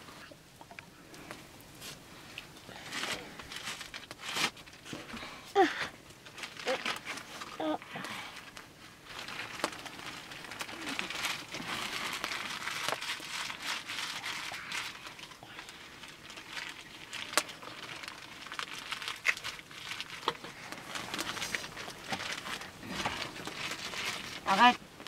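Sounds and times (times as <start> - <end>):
crinkly material rustling: 1.3 - 25.0.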